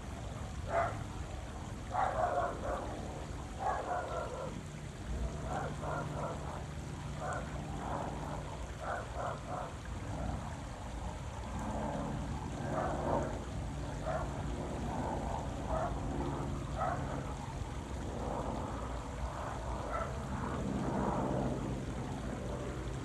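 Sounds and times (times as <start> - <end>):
low steady hum: 0.0 - 23.0
running water splashing: 0.0 - 23.0.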